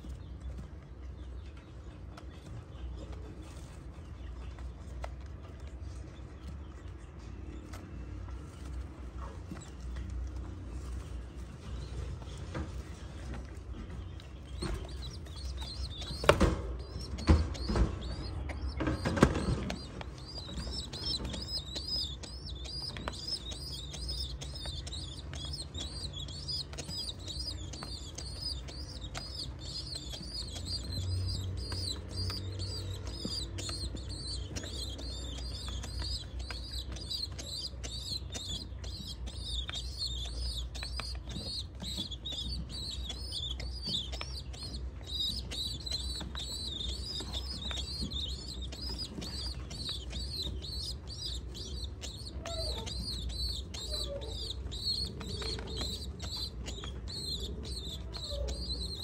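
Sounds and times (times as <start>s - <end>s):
squabs peeping: 2.8s - 59.0s.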